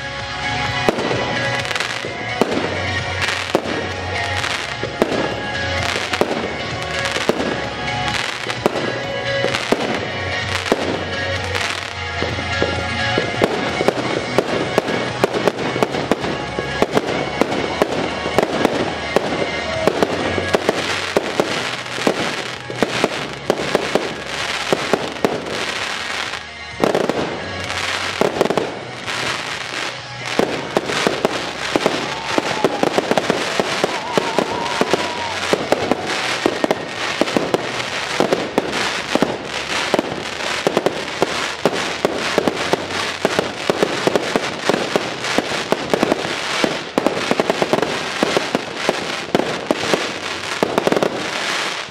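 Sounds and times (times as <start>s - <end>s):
fireworks bursting and crackling: 0.0s - 51.9s.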